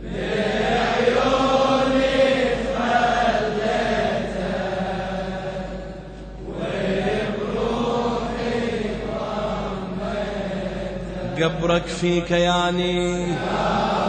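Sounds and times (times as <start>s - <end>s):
men chanting in unison: 0.0s - 5.8s, 6.4s - 14.0s.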